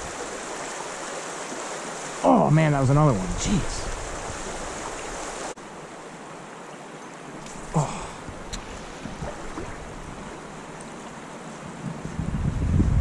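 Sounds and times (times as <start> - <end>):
creek water flowing: 0.0 - 12.9
wind: 0.0 - 13.0.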